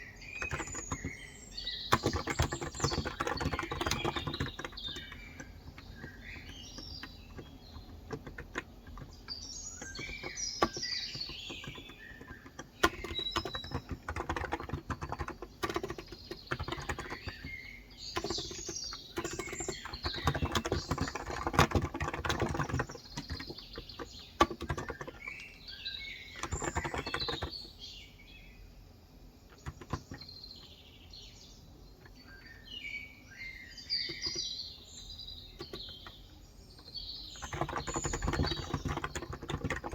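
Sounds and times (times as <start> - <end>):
birds chirping: 0.0 - 39.9
keyboard typing: 0.2 - 25.6, 26.3 - 27.7, 29.5 - 30.3, 34.0 - 39.9.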